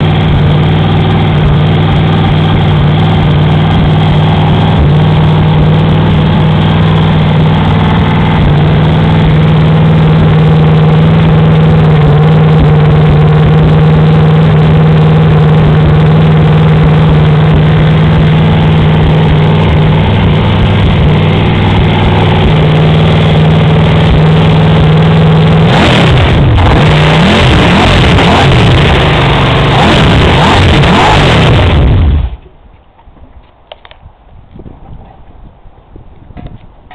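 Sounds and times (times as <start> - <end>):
car engine running and revving: 0.0 - 32.5.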